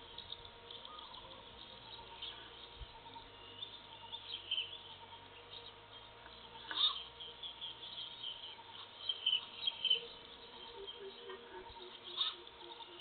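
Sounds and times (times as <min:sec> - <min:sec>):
faint steady hum: 0:00.0 - 0:13.0
small birds chirping: 0:00.0 - 0:13.0.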